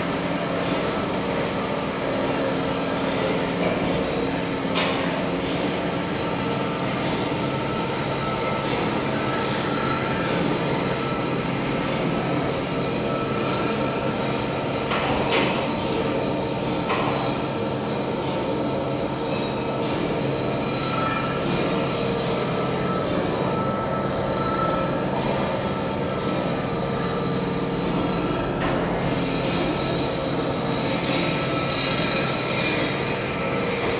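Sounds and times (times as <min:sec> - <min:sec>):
lathe cutting metal: 0:05.6 - 0:33.9.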